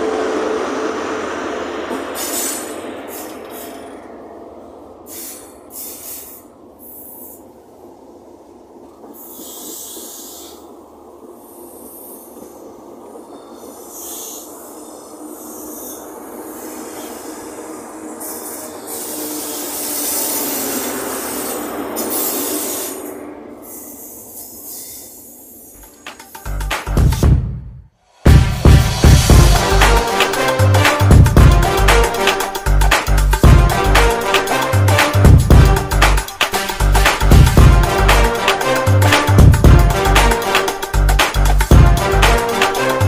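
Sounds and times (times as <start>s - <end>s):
diesel engine of train: 0.0s - 27.0s, 28.1s - 43.0s
wheel and rail rumble: 0.0s - 27.2s, 28.2s - 43.0s.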